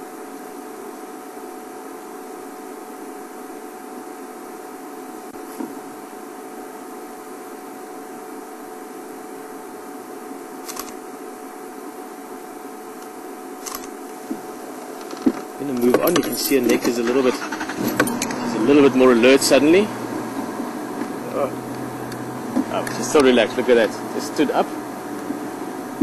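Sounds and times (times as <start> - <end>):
mechanical hum and hiss: 0.0 - 26.0.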